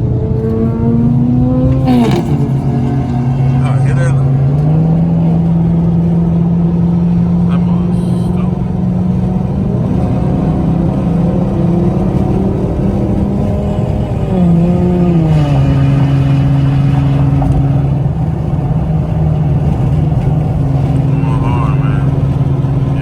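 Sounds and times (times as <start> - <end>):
car engine driving: 0.0 - 23.0.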